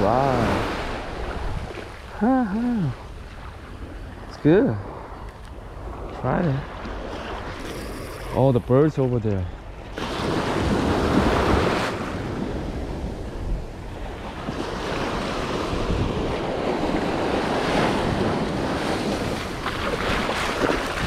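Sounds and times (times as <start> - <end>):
ocean surf washing onto beach: 0.0 - 21.0
wind rumbling on microphone: 0.0 - 21.0.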